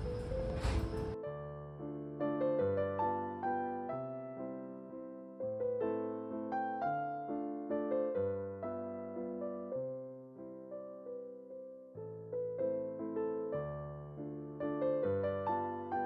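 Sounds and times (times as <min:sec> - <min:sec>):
slow piano waltz: 0:00.0 - 0:16.0.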